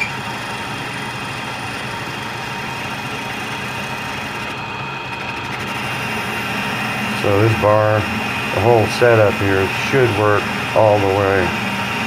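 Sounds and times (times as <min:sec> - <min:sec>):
boring bar cutting metal: 0:00.0 - 0:12.0
metal lathe motor hum: 0:00.0 - 0:12.0.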